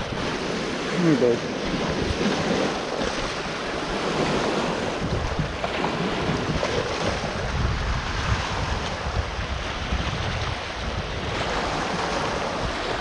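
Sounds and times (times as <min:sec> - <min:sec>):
waves washing on shore: 0:00.0 - 0:13.0
wind buffeting microphone: 0:00.0 - 0:13.0.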